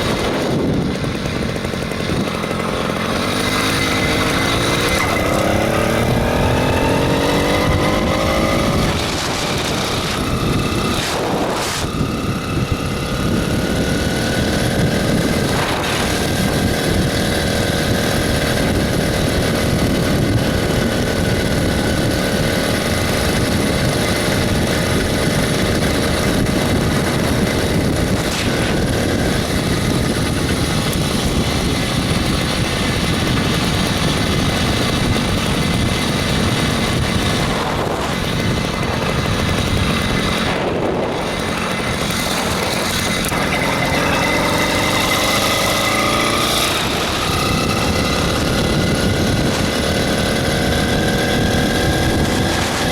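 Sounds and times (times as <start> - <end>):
two-stroke engine running: 0.0 - 52.9
wind noise on microphone: 0.0 - 52.9.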